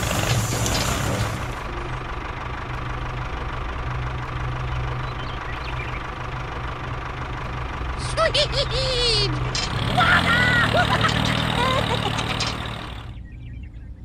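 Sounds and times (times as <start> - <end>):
tractor engine idling: 0.0 - 13.4.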